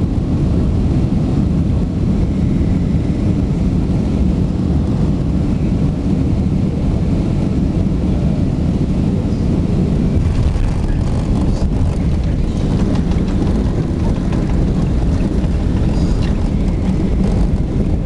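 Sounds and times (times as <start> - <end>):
jet cabin low roar: 0.0 - 18.0.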